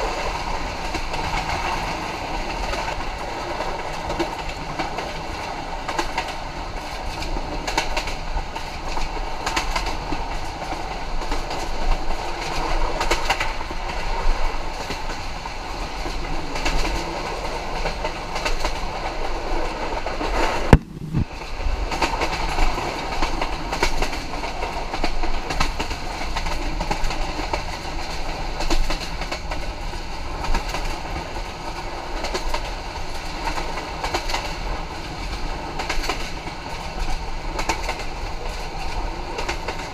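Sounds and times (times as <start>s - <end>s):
train rumbling: 0.0s - 39.9s
wheels clacking over rail joints: 0.0s - 39.9s.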